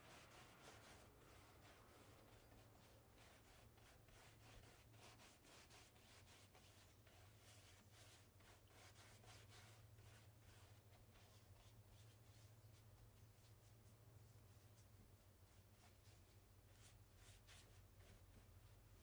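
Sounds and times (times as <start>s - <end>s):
paintbrush strokes on fabric: 0.0s - 19.0s.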